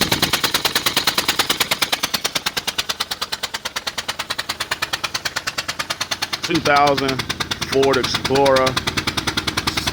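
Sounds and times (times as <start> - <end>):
rapid ticking from car: 0.0 - 9.9.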